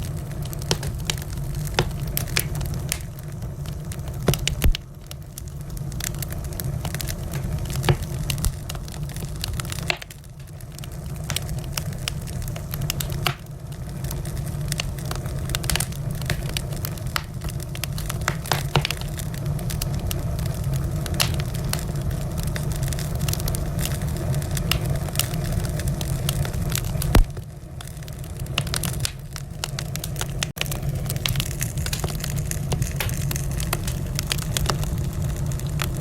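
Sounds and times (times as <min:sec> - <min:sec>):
low rumble of fire: 0:00.0 - 0:36.0
wood fire crackling and popping: 0:00.0 - 0:36.0.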